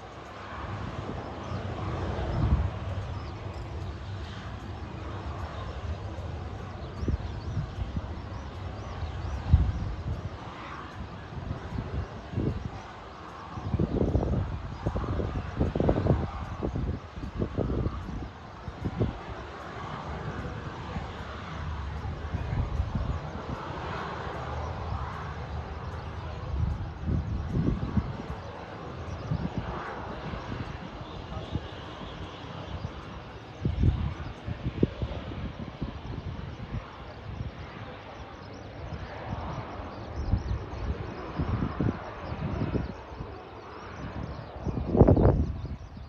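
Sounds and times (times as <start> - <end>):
jet engines roaring: 0.0 - 46.0
wind buffeting microphone: 0.0 - 46.0.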